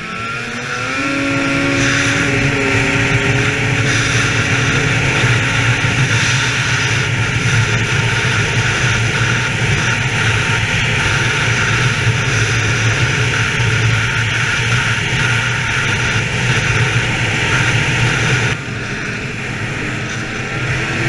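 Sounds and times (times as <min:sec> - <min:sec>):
snowmobile engine running: 0:00.0 - 0:21.0
wind on microphone: 0:00.0 - 0:21.0.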